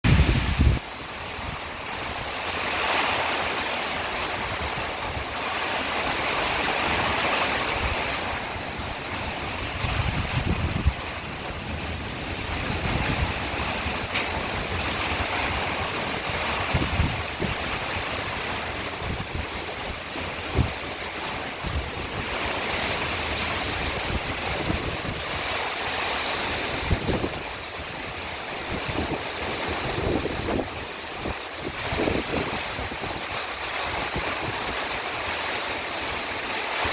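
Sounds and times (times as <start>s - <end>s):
heavy rain pouring: 0.0s - 36.9s
wind gusts thumping on microphone: 0.0s - 36.9s.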